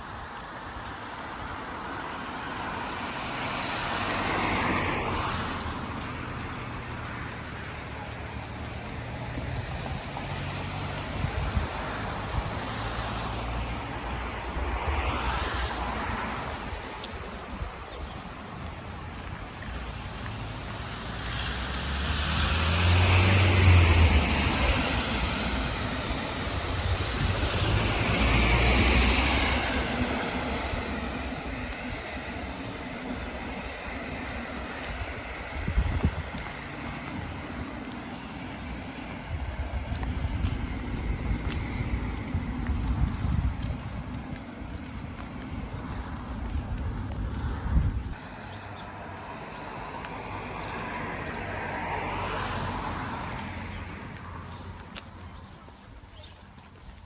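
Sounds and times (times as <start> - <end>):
road vehicles passing: 0.0 - 57.0
wind on microphone: 8.8 - 56.0.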